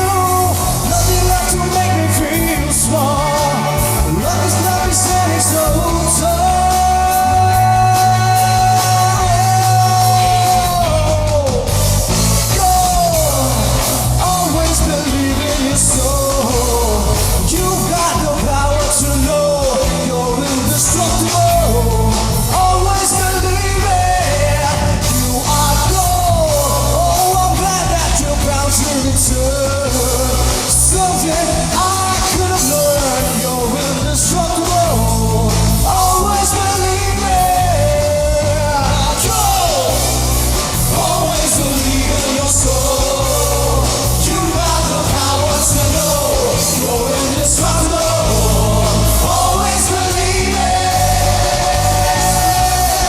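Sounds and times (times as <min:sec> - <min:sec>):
loud rock band with singing: 0:00.0 - 0:53.0.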